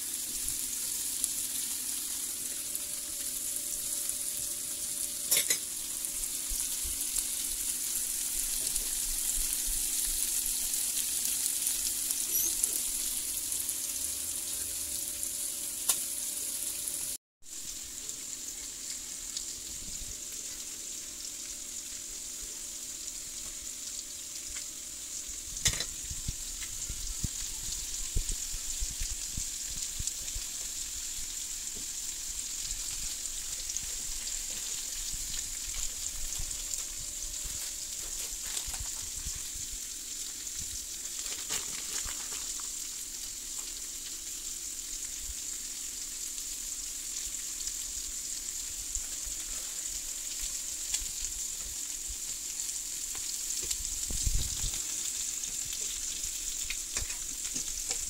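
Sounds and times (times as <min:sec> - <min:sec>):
meat and potatoes sizzling in pan: 0:00.0 - 0:58.0.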